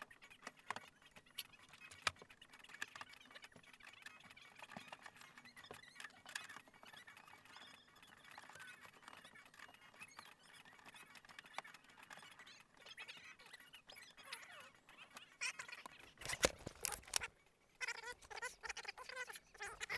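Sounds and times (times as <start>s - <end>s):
faint clicks and small squeaks: 0.0s - 19.9s.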